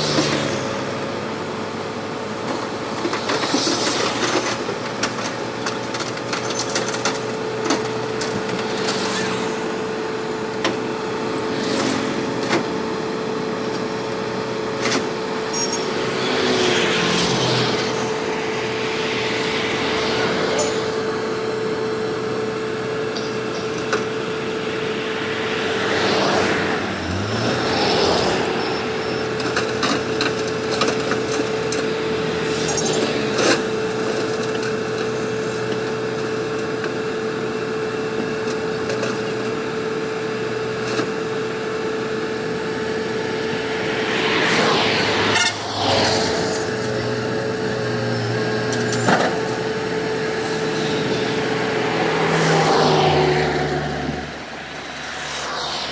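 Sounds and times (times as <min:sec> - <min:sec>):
constant whine: 0:00.0 - 0:55.9
excavator diesel engine running: 0:00.0 - 0:55.9.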